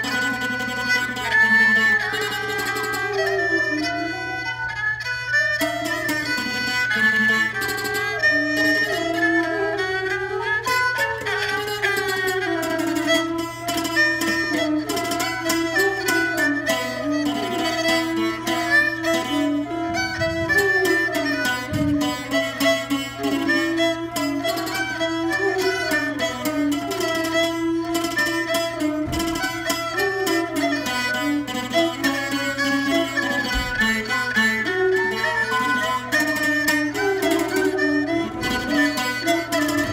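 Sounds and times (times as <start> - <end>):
bowed fiddle melody: 0.0 - 39.9
plucked zither fast notes: 0.0 - 39.9.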